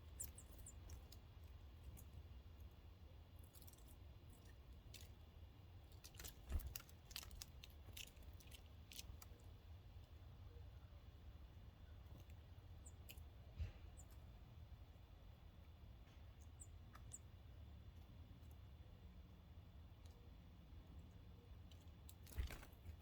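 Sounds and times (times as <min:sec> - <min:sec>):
small birds ticking and chipping: 0:00.0 - 0:23.0.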